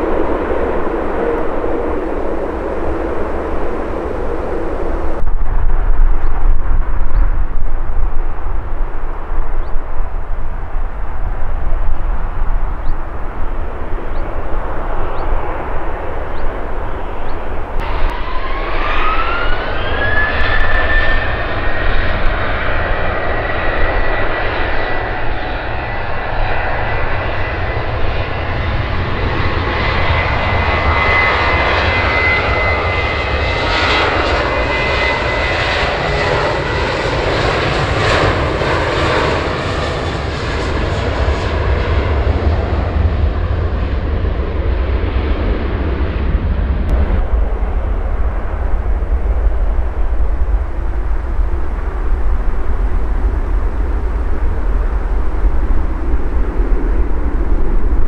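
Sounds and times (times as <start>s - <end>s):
deep jet engine rumble: 0.0s - 58.0s
jet engine whine: 0.0s - 58.0s.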